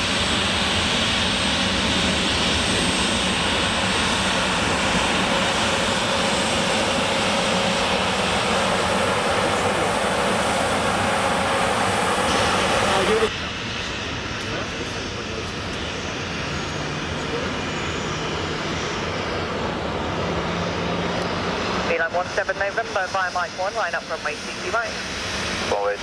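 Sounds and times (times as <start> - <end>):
airliner engines roaring: 0.0 - 26.0.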